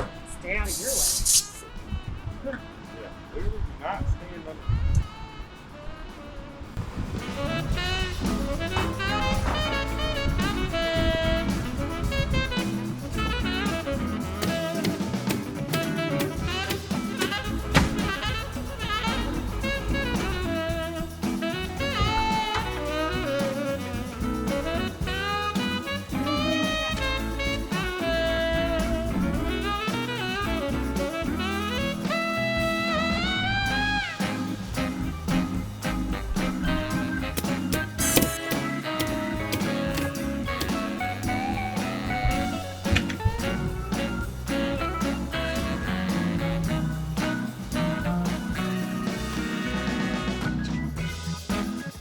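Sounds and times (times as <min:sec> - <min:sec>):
upbeat jazzy music: 0:00.0 - 0:52.0.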